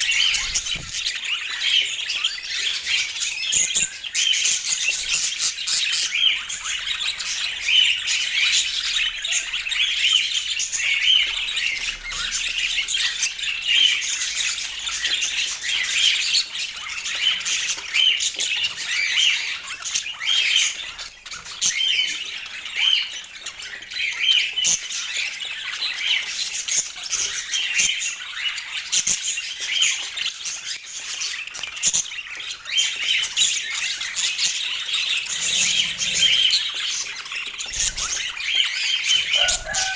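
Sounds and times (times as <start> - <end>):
budgerigars chattering: 0.0 - 26.3, 32.6 - 39.9.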